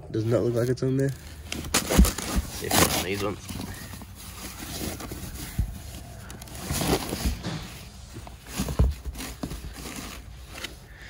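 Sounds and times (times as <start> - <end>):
foam and cardboard rustling: 0.2 - 11.0.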